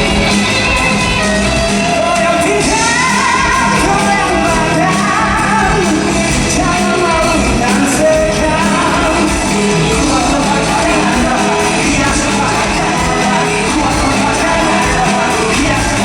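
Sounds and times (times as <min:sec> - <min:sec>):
live band playing pop-rock: 0:00.0 - 0:16.0
man singing lead: 0:00.0 - 0:16.0.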